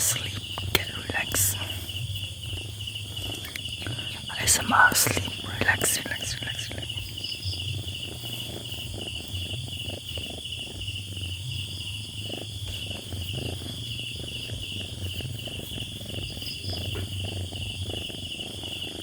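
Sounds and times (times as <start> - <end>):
crickets chirping: 0.0 - 19.0
steady low hum: 0.0 - 19.0.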